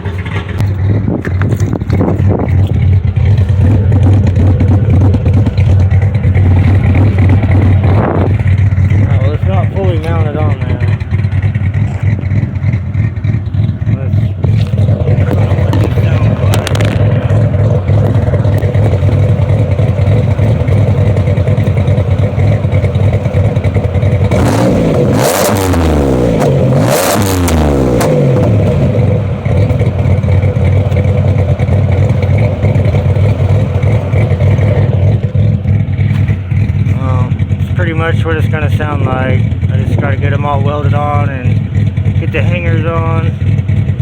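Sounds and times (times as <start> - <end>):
car engine idling and revving: 0.0 - 44.0.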